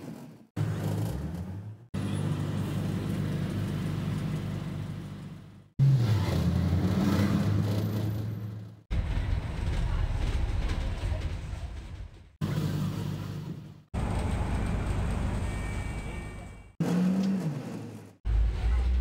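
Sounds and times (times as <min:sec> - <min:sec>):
bus engine and road hum: 0:00.6 - 0:10.9, 0:12.4 - 0:19.0.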